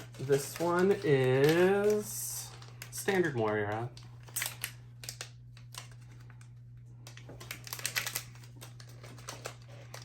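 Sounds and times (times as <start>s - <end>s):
packaging clicks and rustles: 0.0s - 10.0s
steady low hum: 0.0s - 10.0s.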